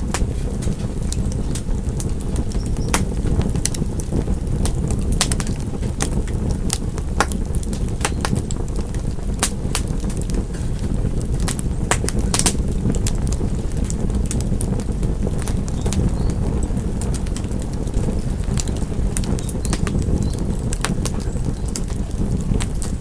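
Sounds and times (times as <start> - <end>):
low rumble of burning fire: 0.0 - 23.0
wood fire crackling: 0.0 - 23.0.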